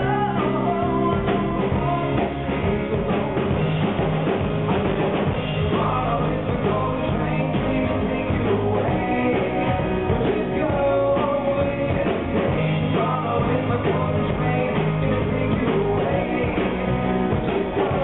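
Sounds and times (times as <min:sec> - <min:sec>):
two men singing a duet: 0:00.0 - 0:03.0, 0:05.5 - 0:18.0
live band with drums: 0:00.0 - 0:18.0.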